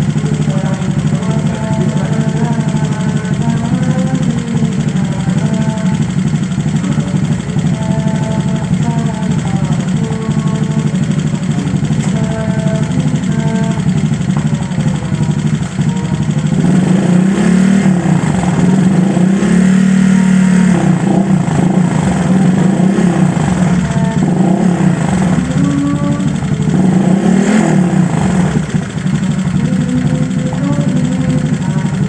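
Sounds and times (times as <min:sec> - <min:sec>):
scooter engine idling: 0:00.0 - 0:32.0
scooter throttle blips: 0:00.0 - 0:32.0.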